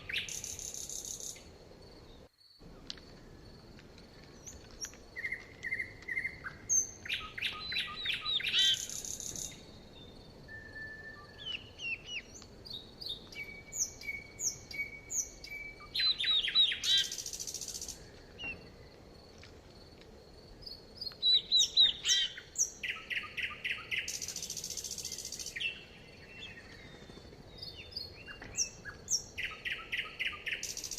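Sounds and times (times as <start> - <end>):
songbirds singing: 0.0 - 19.4, 20.4 - 30.9.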